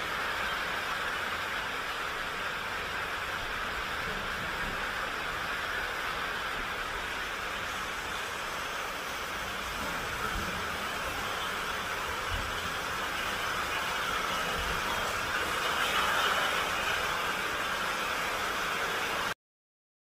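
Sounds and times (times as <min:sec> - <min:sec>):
heavy rain falling: 0:00.0 - 0:19.4.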